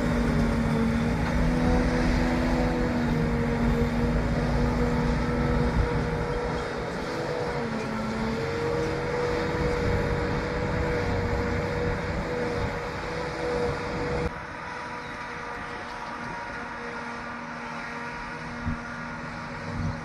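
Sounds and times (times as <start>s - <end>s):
vehicle engine whining: 0.0s - 20.0s.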